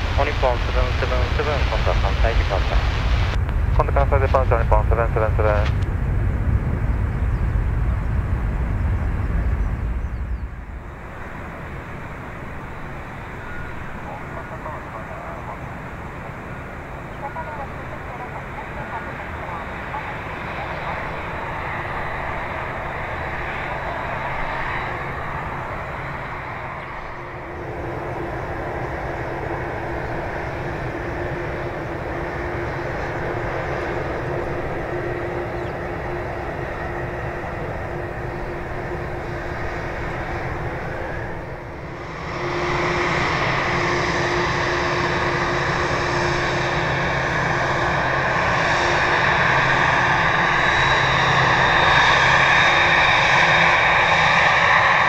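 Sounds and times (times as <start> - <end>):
jet engines rumbling with whine: 0.0 - 55.0.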